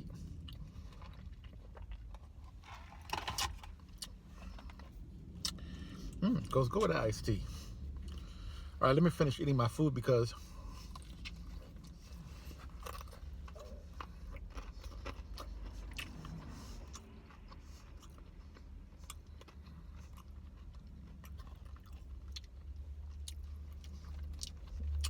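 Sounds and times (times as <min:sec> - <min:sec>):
chewing crispy fried chicken: 0:00.0 - 0:25.0
steady low hum: 0:00.0 - 0:25.0.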